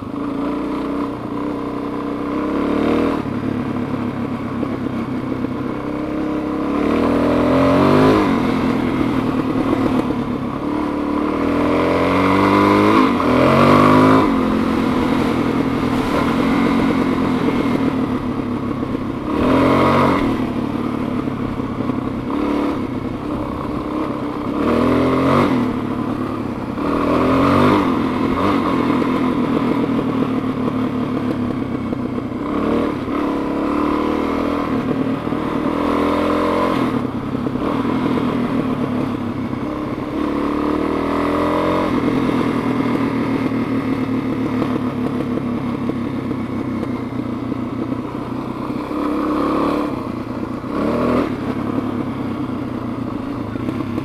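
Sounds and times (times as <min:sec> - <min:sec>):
dirt bike engine revving: 0:00.3 - 0:03.4, 0:05.8 - 0:31.6, 0:32.4 - 0:44.9, 0:48.6 - 0:51.9.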